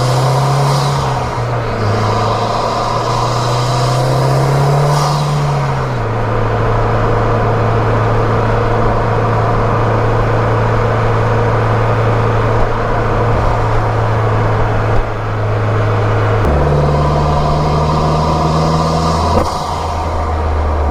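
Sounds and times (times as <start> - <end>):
car engine droning: 0.0 - 20.9.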